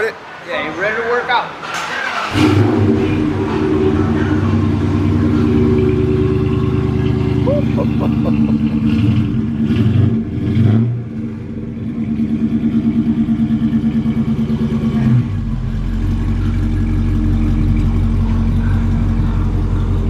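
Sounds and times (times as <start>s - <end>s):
car engine revving and rumbling: 2.2s - 20.0s.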